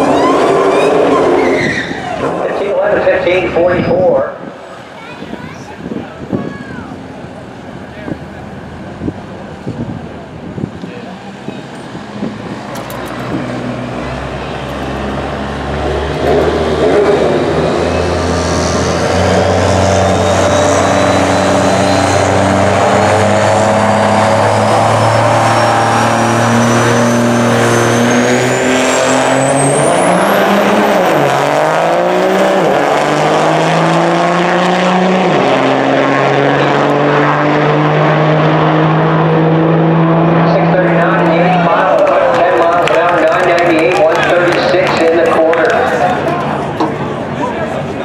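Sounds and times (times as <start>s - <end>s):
high whine climbing in pitch: 0.0s - 48.0s
loud engines running: 0.0s - 48.0s.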